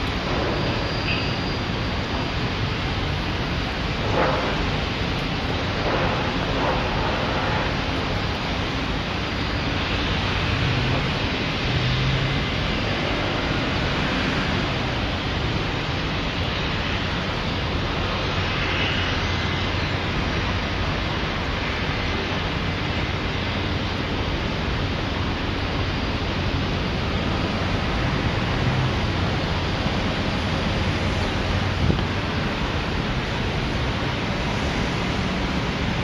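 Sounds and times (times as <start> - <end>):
wind rushing over microphone: 2.2 - 36.0.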